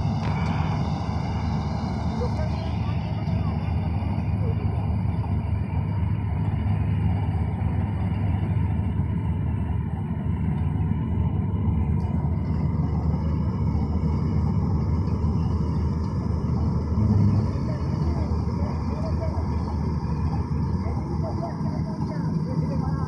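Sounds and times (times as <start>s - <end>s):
combine harvester engine droning: 0.0s - 23.0s.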